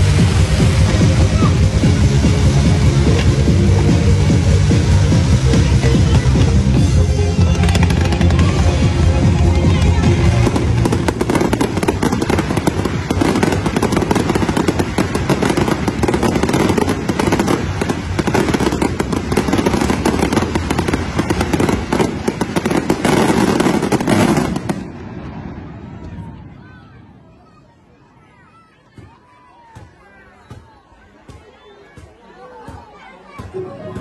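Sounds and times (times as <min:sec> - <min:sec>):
fireworks bangs and crackling: 0:00.0 - 0:27.6.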